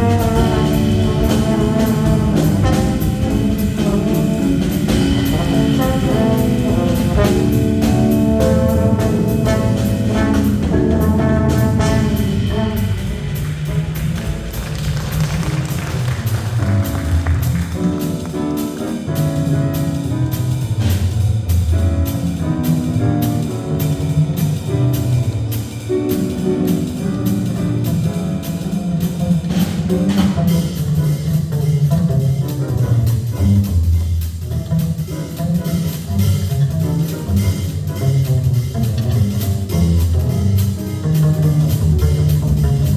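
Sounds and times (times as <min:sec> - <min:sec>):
drum kit keeping time: 0:00.0 - 0:42.9
jazz combo playing: 0:00.0 - 0:42.9.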